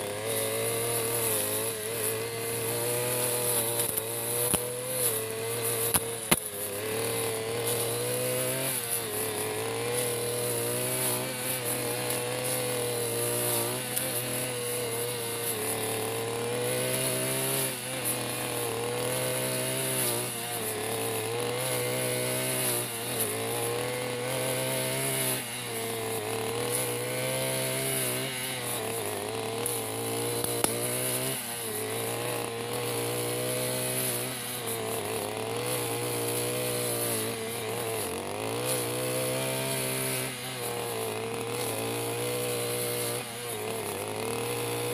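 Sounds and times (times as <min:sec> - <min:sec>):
blade cutting thick grass: 0:00.0 - 0:44.9
brush cutter engine running: 0:00.0 - 0:44.9.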